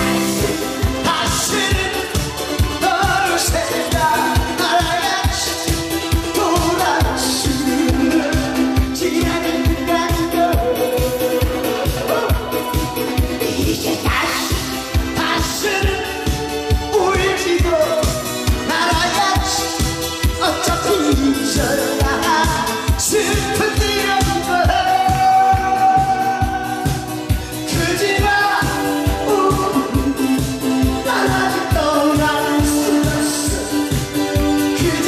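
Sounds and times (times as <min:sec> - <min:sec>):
backing music with fast beat: 0:00.0 - 0:35.0
person singing: 0:00.0 - 0:35.0.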